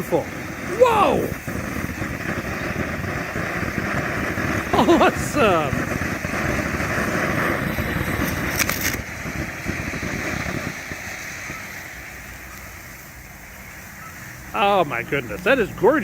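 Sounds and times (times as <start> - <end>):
fountain firework crackling spray: 0.0 - 16.0.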